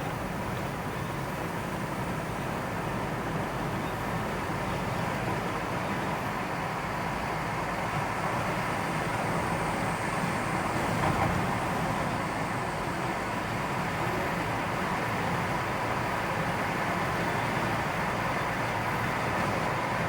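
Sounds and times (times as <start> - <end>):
vehicle road noise: 0.0 - 20.0.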